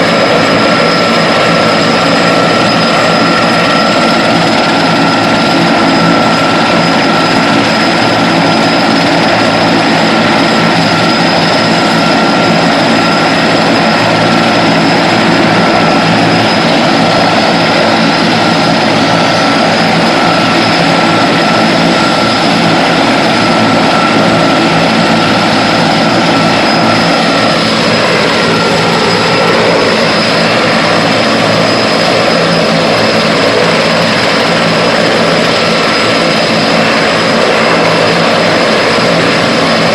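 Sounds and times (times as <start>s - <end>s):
helicopter rotor and turbine: 0.0s - 39.9s
high turbine whine: 0.0s - 39.9s.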